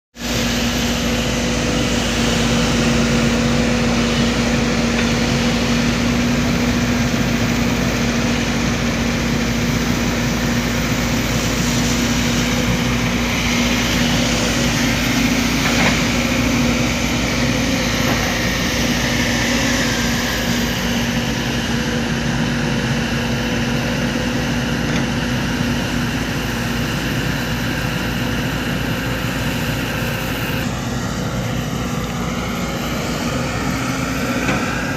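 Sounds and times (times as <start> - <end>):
heavy diesel engine running: 0.2 - 34.9.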